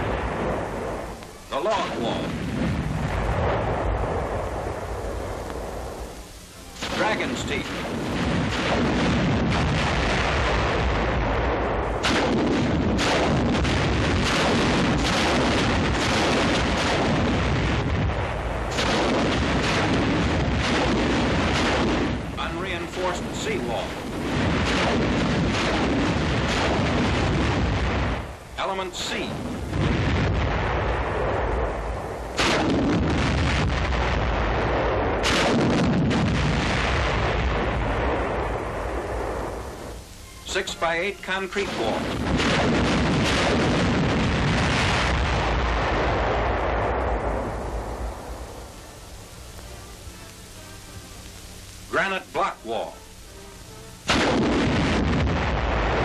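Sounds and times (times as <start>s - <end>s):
rumble of explosions: 0.0s - 56.0s
sharp detonations: 0.0s - 56.0s.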